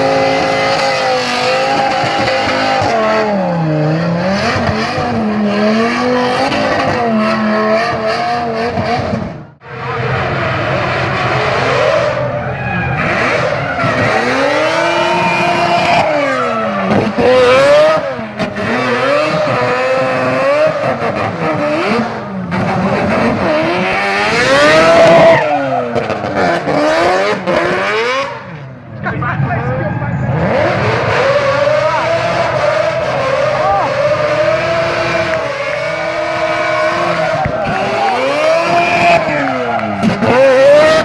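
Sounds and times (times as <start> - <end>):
car engine revving hard: 0.0 - 41.0.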